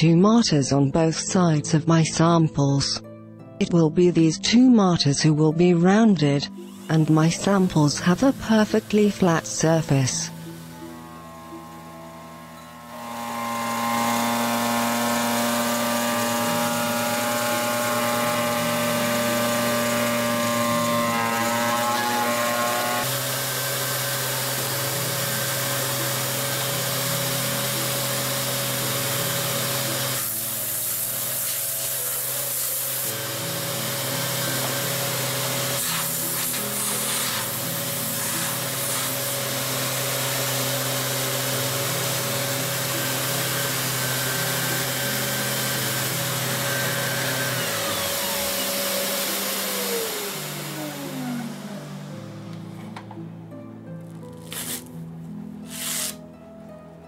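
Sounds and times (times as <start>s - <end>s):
electric disc sander whining: 6.6s - 53.1s.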